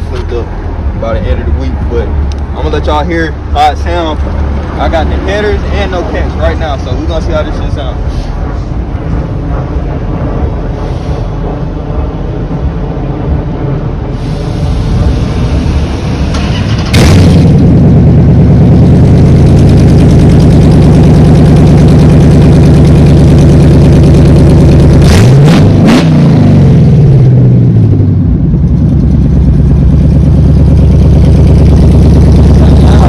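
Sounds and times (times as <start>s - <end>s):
car engine revving: 0.0s - 33.0s
car engine starting and idling: 0.0s - 33.0s.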